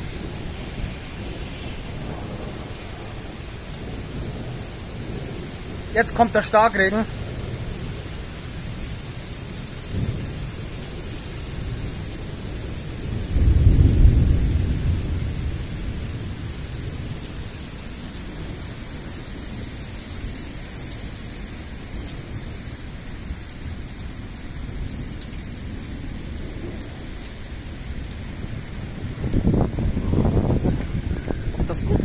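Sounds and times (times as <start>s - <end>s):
thunder rumbling: 0.0s - 19.7s, 23.2s - 32.0s
heavy rain falling: 0.0s - 32.0s.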